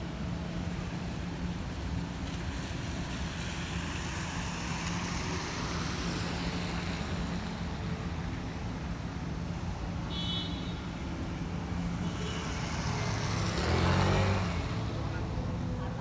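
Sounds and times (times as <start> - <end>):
tyres hissing on wet road: 0.0 - 16.0.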